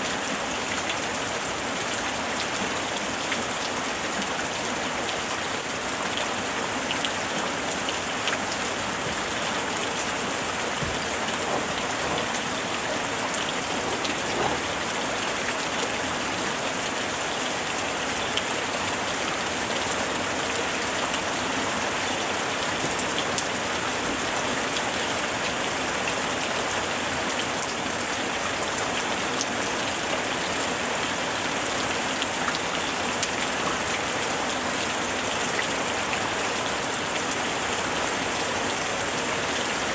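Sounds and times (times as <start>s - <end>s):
heavy rain pattering: 0.1s - 39.9s.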